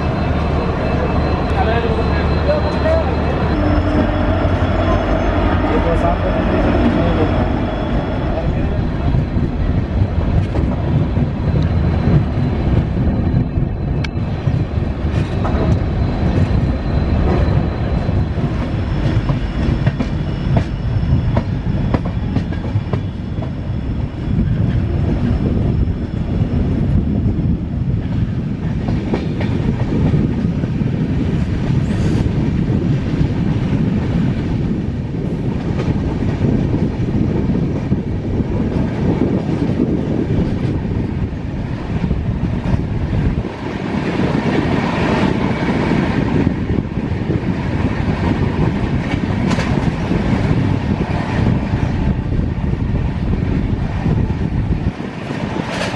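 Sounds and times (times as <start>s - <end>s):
rail clicks and clatter: 0.0s - 55.9s
train wheels rumbling on track: 0.0s - 55.9s.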